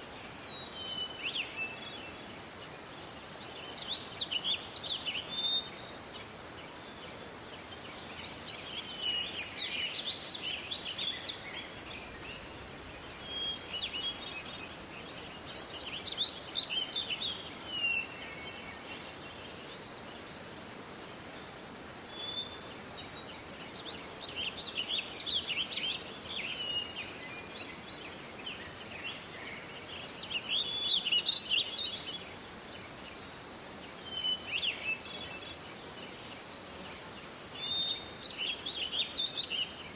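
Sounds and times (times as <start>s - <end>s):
faint hiss: 0.0s - 39.9s
small songbirds singing: 0.0s - 39.9s.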